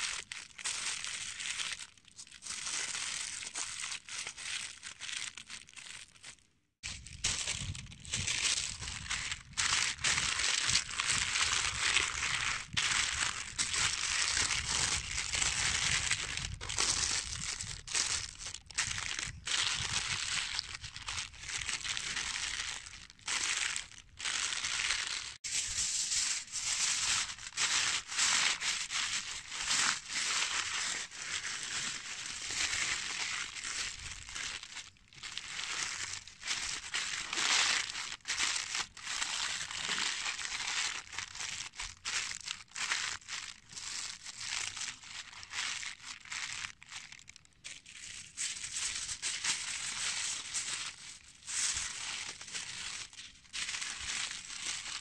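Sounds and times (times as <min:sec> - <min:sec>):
paper and foil crinkling: 0:00.0 - 0:55.0.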